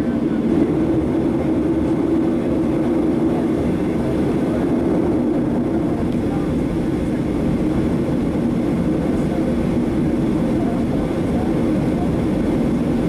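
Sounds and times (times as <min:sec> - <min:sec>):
jet cabin rumble: 0:00.0 - 0:13.0.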